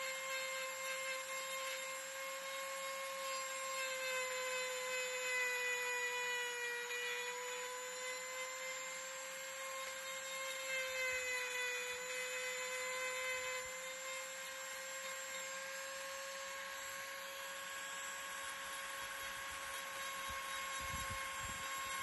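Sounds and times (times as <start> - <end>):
carving bit grinding wood: 0.0 - 22.0
rotary tool whining: 0.0 - 22.0.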